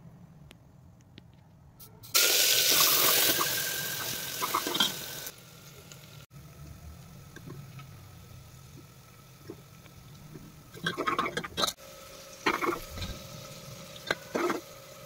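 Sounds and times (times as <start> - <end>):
food sizzling in hot oil: 2.1 - 6.3, 7.0 - 15.0.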